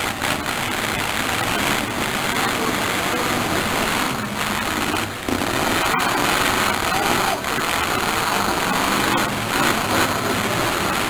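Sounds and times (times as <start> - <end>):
car engines crackling: 0.0 - 11.0
crowd voices: 0.0 - 11.0.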